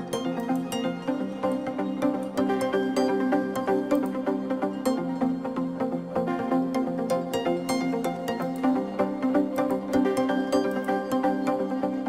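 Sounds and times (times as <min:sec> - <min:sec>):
melodic instrumental music: 0:00.0 - 0:12.0.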